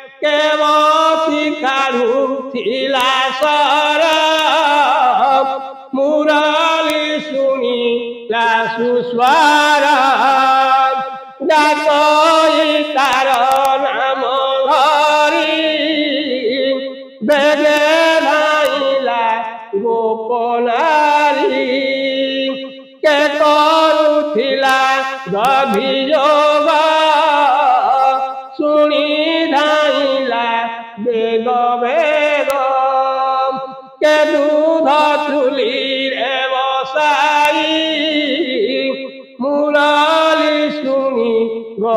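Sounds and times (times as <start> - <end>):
person chanting verses: 0.0 - 41.9.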